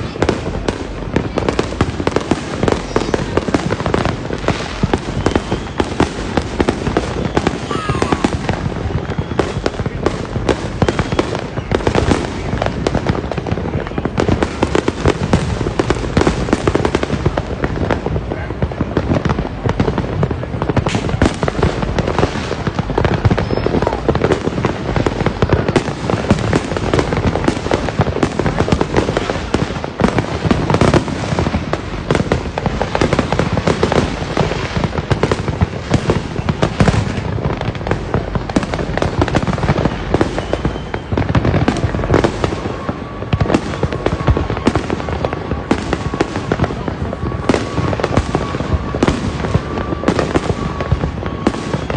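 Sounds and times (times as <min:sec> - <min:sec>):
fireworks and firecrackers banging: 0:00.0 - 0:51.9.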